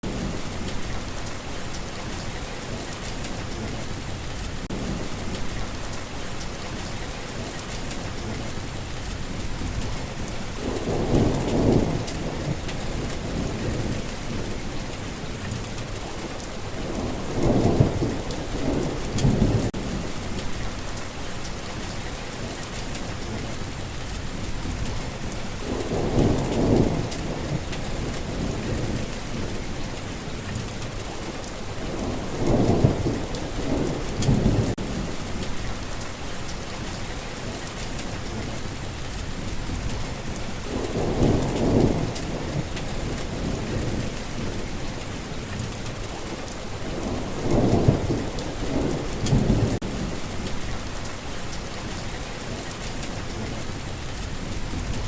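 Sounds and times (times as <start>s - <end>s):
steady rain falling: 0.0s - 55.0s
thunder rumbling: 0.0s - 55.0s.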